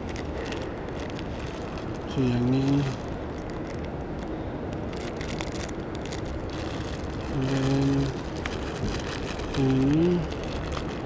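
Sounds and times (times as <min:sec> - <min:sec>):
mall ambience: 0:00.0 - 0:11.0
plastic packaging crinkling: 0:00.0 - 0:11.0.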